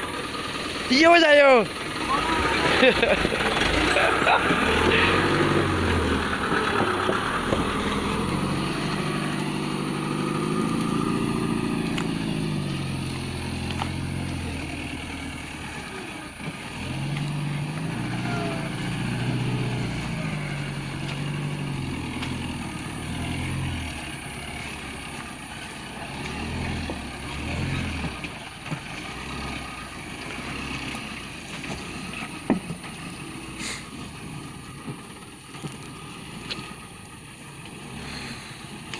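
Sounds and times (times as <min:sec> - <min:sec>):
truck engine under load: 0:00.0 - 0:38.9.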